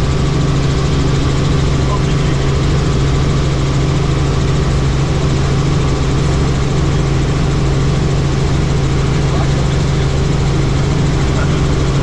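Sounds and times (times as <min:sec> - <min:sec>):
helicopter rotor drone: 0:00.0 - 0:12.0.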